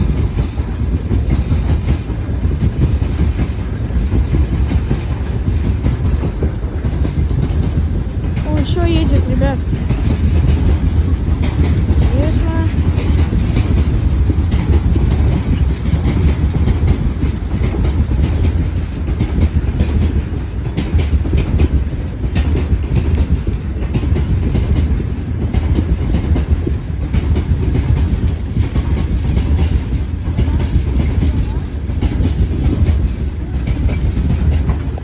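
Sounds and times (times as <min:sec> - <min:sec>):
train wheels rumbling on rails: 0:00.0 - 0:35.0
wheels clicking over rail joints: 0:00.0 - 0:35.0.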